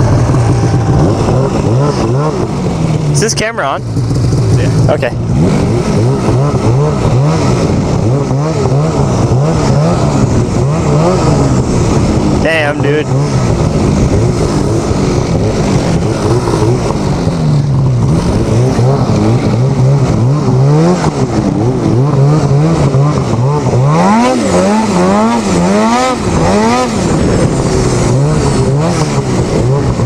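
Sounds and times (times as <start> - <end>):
snowmobile engine revving: 0.0 - 30.0.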